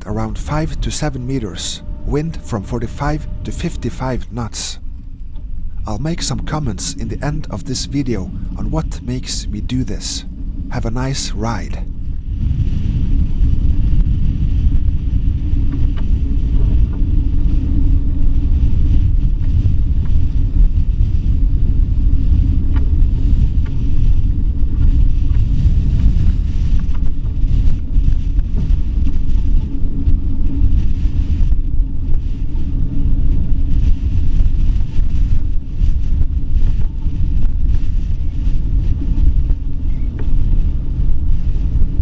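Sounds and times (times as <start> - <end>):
wind buffeting microphone: 4.7 - 10.7, 11.6 - 42.0.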